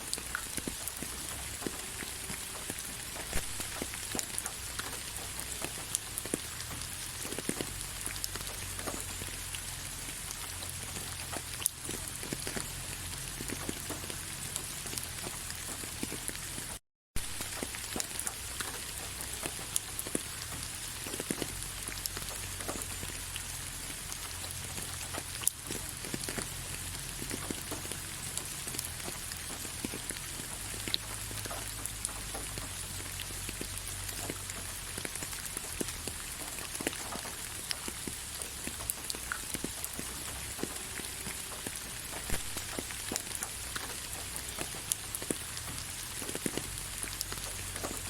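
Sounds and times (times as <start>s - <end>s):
gentle rain falling: 0.0s - 48.0s
raindrops ticking on a surface: 0.0s - 48.0s.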